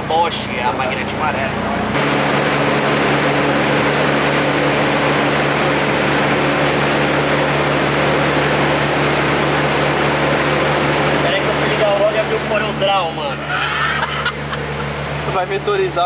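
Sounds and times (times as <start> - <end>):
steady mechanical drone: 0.0 - 16.0.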